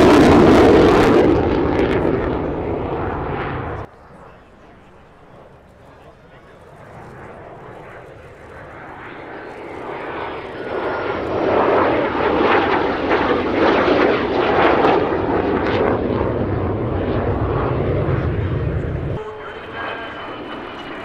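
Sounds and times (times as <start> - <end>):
jet engine rumble with crackling: 0.0 - 21.0.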